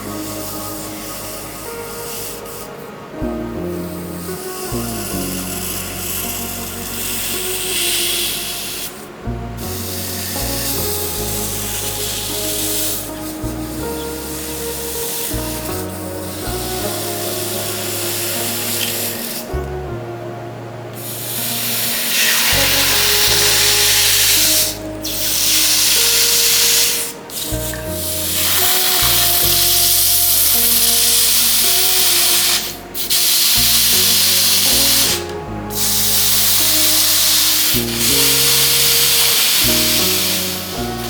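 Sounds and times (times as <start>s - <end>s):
loud even hissing: 0.0s - 19.9s, 21.0s - 41.0s
music with slow bass line: 0.0s - 41.0s.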